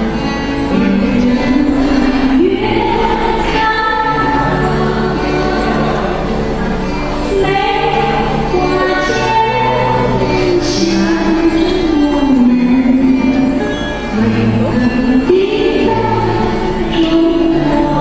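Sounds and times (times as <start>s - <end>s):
instrumental backing music: 0.0s - 18.0s
woman singing: 0.7s - 6.0s, 7.2s - 18.0s.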